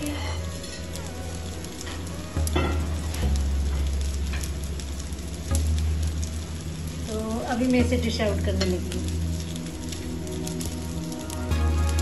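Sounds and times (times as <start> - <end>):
low steady hum: 0.0 - 12.0
steaks sizzling on grill pan: 0.0 - 12.0
fat popping and crackling: 0.5 - 12.0.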